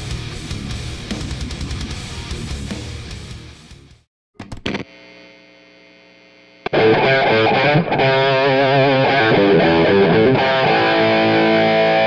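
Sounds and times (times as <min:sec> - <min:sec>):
distorted electric guitar riff: 0:00.0 - 0:05.3, 0:06.2 - 0:12.0.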